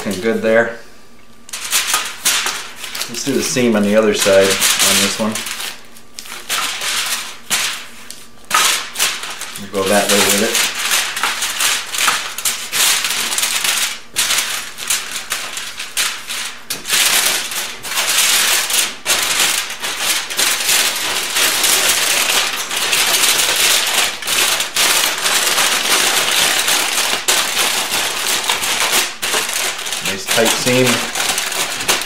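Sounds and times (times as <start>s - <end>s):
aluminium foil crinkling: 1.5s - 32.0s.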